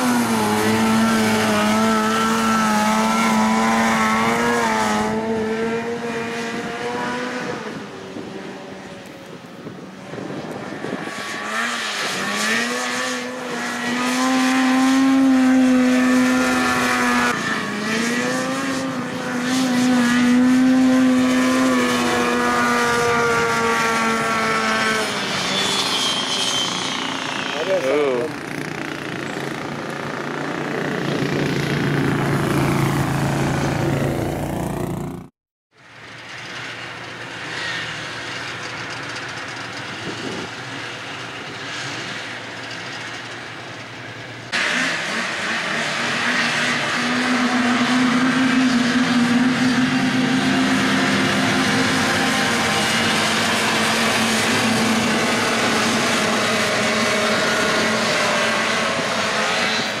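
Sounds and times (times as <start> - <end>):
atv engines racing: 0.0 - 35.3, 35.9 - 60.0.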